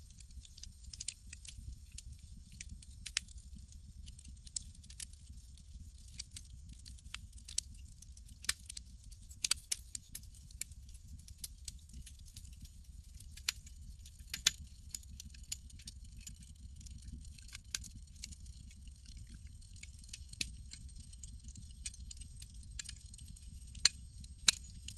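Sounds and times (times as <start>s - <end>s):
campfire crackling: 0.3s - 5.4s, 6.0s - 13.6s, 14.3s - 24.9s.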